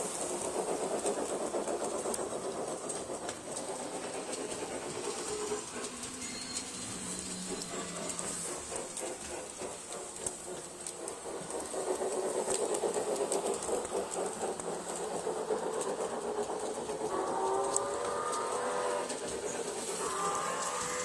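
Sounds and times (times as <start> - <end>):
model train motor whirring: 0.0 - 21.0
wheels rattling on track: 0.0 - 21.0.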